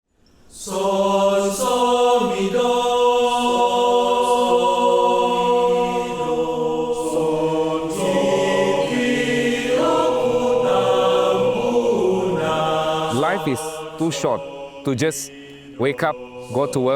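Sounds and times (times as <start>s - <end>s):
male choir singing: 0.5s - 16.9s.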